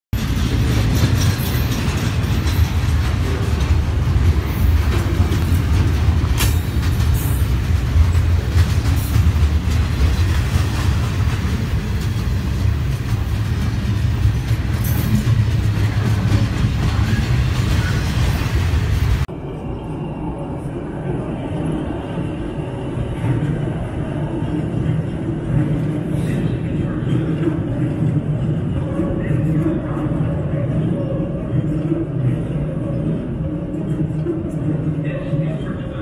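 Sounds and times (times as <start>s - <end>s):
freight train wheels rumbling: 0.1s - 36.0s.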